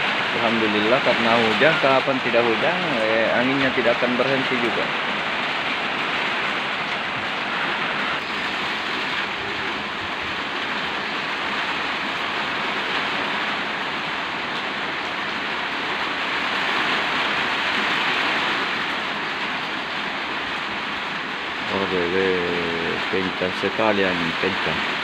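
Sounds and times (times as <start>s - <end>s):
heavy wind-driven rain: 0.0s - 25.0s.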